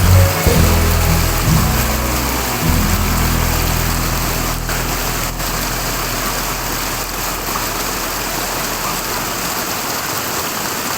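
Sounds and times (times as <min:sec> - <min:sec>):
low music tones: 0:00.0 - 0:09.8
waterfall rushing water: 0:00.0 - 0:10.9.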